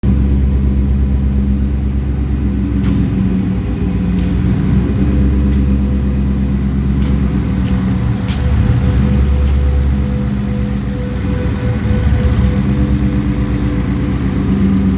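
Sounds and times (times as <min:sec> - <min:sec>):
truck engine deep exhaust note: 0:00.0 - 0:14.9.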